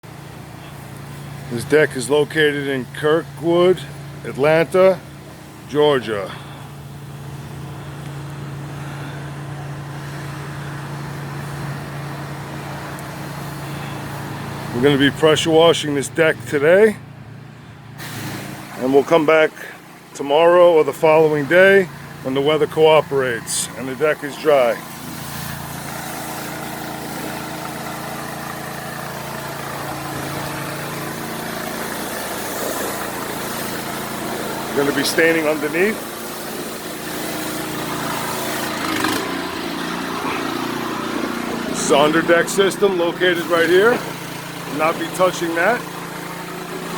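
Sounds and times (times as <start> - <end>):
outdoor background noise: 0.0 - 46.9
pressure washer engine running: 0.0 - 46.9
low mechanical hum: 0.1 - 46.9.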